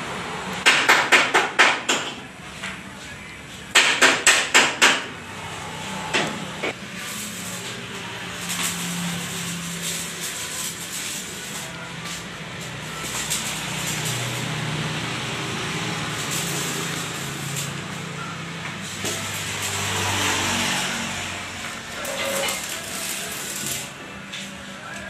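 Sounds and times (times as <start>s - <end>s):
outdoor noise: 0.0s - 25.0s.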